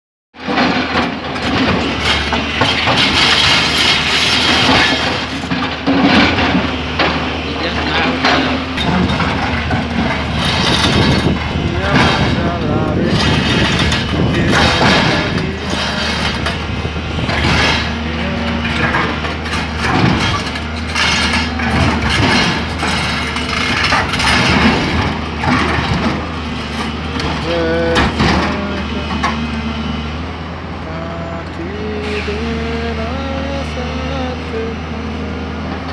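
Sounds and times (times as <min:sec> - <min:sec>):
machine clanks and knocks: 0:00.4 - 0:30.1, 0:30.8 - 0:35.9
excavator diesel engine humming: 0:00.4 - 0:35.9
hydraulics surging: 0:00.4 - 0:35.9.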